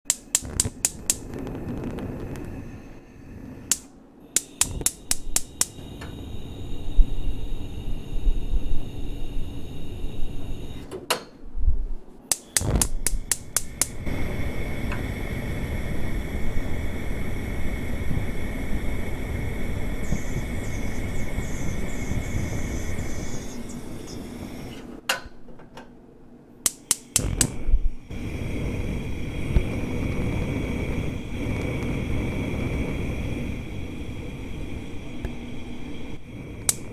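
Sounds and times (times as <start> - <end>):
gas flame rushing: 0.0 - 11.0, 12.3 - 25.0, 26.6 - 36.9
gas stove igniter clicking: 0.0 - 11.3, 12.3 - 25.3, 26.6 - 36.9.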